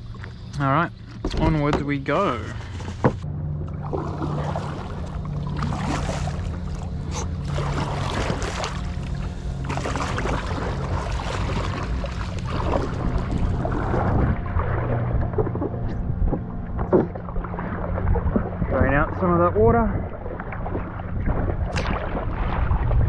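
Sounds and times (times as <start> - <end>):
paddle blades splashing in water: 0.0 - 23.0.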